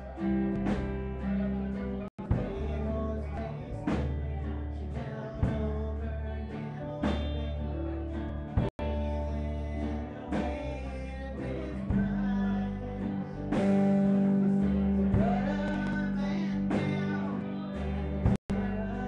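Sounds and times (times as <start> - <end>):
acoustic guitar strumming: 0.0 - 19.0
bass line: 0.0 - 19.0
live country-rock band: 0.0 - 19.0.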